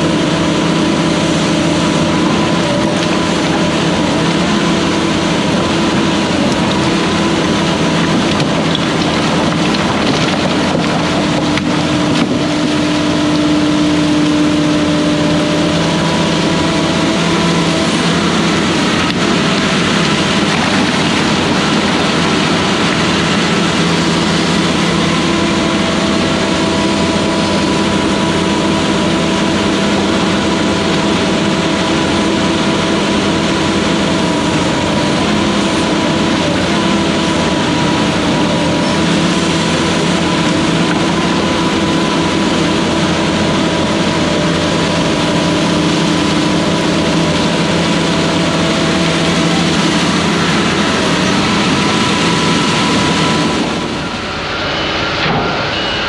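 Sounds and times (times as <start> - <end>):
excavator diesel engine running: 0.0 - 56.0
steady whine: 0.0 - 56.0.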